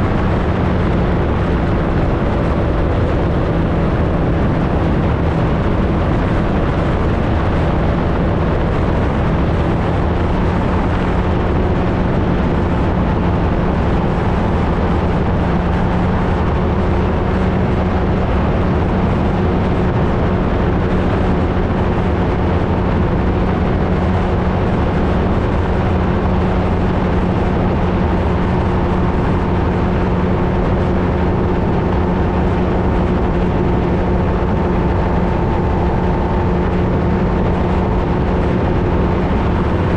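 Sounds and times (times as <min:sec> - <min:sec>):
light aircraft engine droning: 0:00.0 - 0:39.9
wind rush on microphone: 0:00.0 - 0:39.9.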